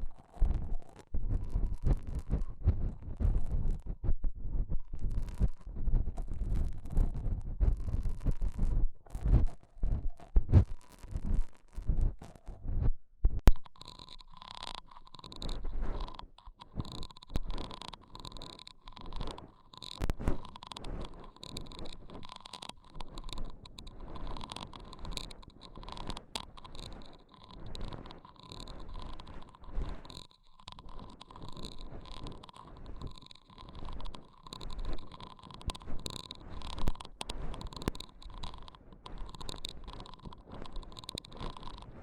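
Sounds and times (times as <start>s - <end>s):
soft rubbing and scratching: 0.0s - 42.0s.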